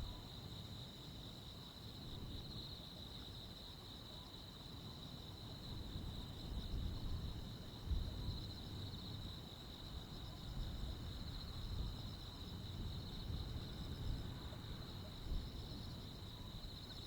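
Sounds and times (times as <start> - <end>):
crickets and insects chirping: 0.0 - 17.0.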